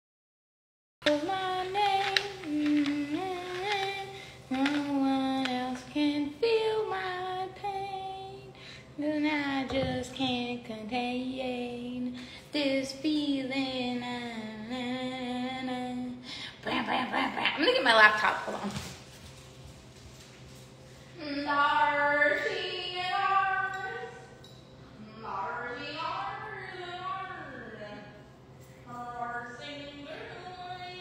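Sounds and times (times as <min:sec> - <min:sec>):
woman singing unaccompanied: 0:01.0 - 0:17.5, 0:21.2 - 0:24.4, 0:25.0 - 0:28.2, 0:28.9 - 0:31.0.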